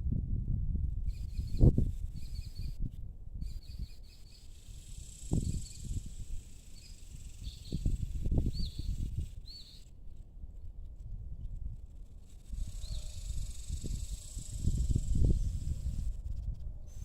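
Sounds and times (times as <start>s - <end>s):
wind buffeting microphone: 0.0s - 9.6s, 10.6s - 17.0s
faint insect hiss: 1.0s - 17.0s
small birds chirping: 1.1s - 17.0s.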